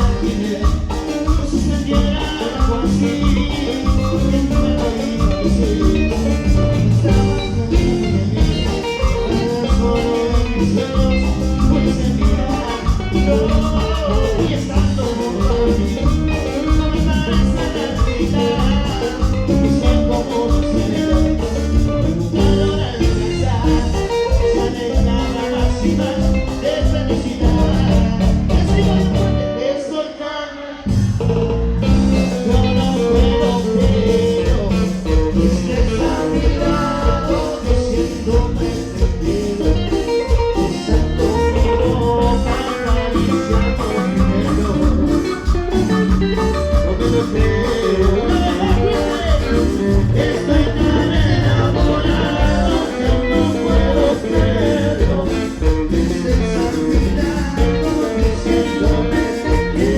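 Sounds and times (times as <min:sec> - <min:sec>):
latin dance band music: 0:00.0 - 0:59.9
person singing: 0:00.0 - 0:59.9.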